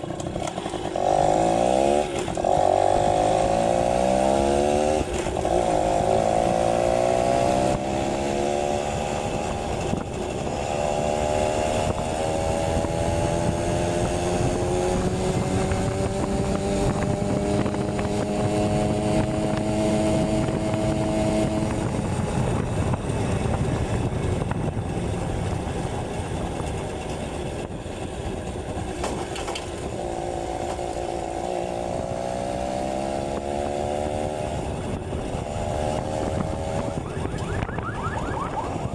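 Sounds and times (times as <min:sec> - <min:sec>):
two-stroke motorbike engine: 0:00.0 - 0:38.9.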